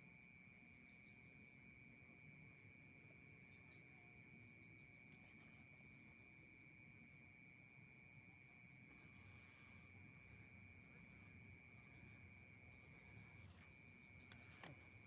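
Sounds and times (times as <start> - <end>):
crickets chirping in trills: 0.0 - 15.0
steady high-pitched insect drone: 0.0 - 15.0.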